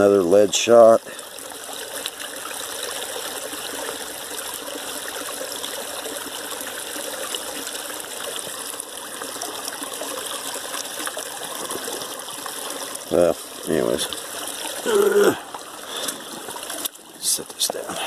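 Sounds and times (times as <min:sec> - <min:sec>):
creek trickling: 0:00.0 - 0:18.0.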